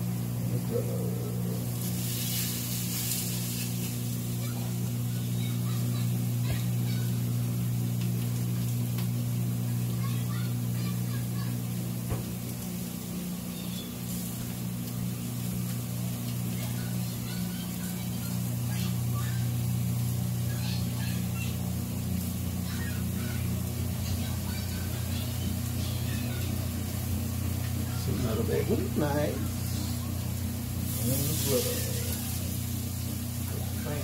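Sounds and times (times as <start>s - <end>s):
burgers frying on a griddle: 0.0s - 34.0s
kitchen appliance humming: 0.0s - 34.0s.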